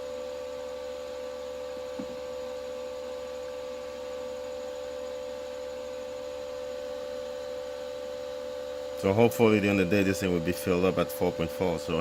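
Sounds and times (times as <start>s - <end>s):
inverter fan high-pitched hum: 0.0s - 12.0s.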